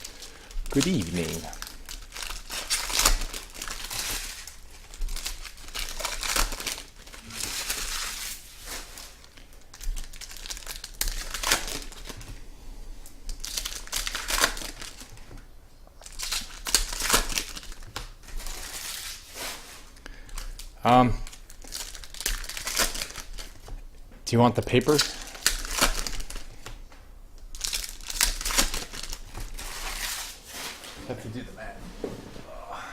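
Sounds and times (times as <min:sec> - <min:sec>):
packaging crinkling and rustling: 0:00.0 - 0:12.4, 0:13.3 - 0:23.9, 0:24.7 - 0:31.0.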